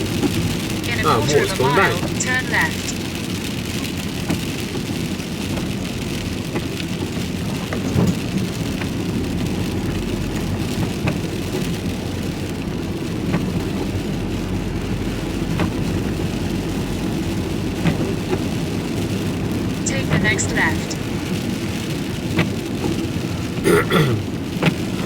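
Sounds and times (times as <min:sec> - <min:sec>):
engine and road rumble: 0:00.0 - 0:25.0
rain hissing on vehicle: 0:00.0 - 0:25.0.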